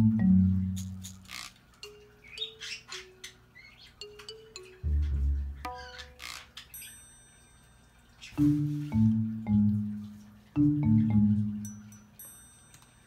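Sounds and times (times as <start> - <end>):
marimba-like melody: 0.0 - 7.6, 8.2 - 12.6.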